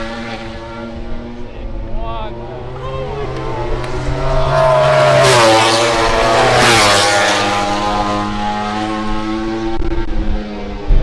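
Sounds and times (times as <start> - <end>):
racing motorcycles passing: 0.0 - 10.8.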